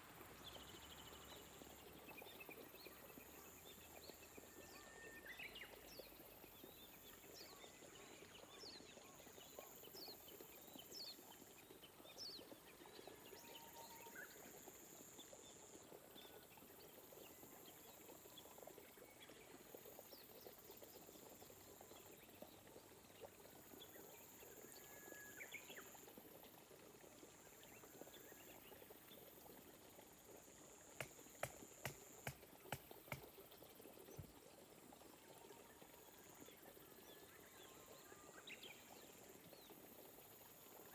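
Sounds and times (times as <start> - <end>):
gentle rain pattering: 0.0 - 40.9.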